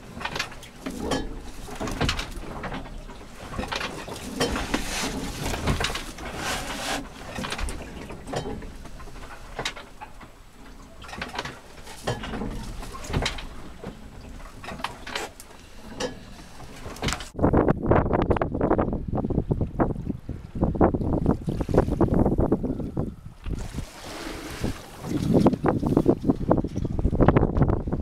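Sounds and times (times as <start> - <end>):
boat cabin creaking and knocking: 0.0 - 28.0.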